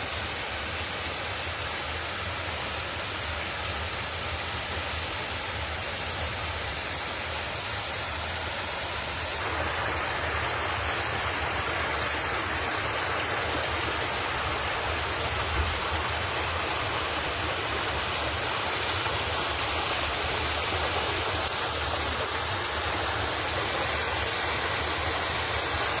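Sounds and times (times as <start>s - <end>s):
swollen creek rushing: 0.0s - 26.0s.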